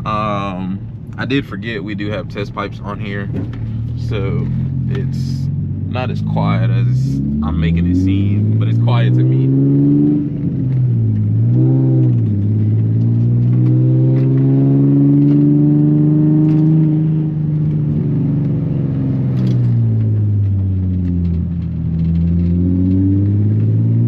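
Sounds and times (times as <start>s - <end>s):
loud car engine revving: 0.0s - 24.0s.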